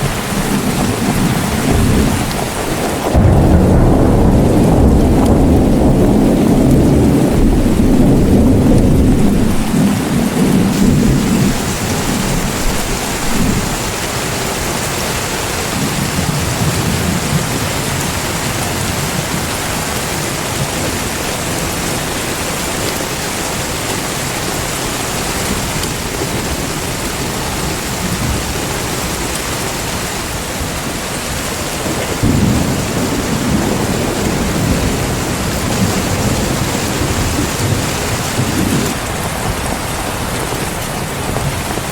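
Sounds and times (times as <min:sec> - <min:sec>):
heavy rain: 0:00.0 - 0:41.9
rolling thunder: 0:00.0 - 0:41.9.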